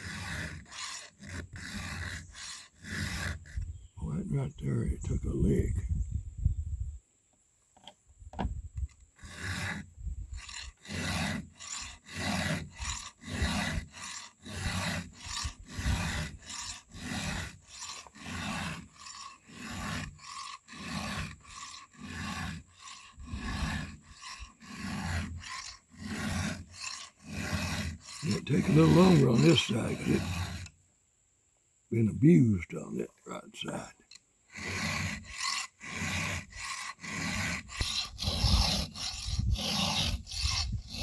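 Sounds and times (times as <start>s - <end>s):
file rasping on chainsaw chain: 0.0s - 5.4s, 8.9s - 30.8s, 33.7s - 41.0s.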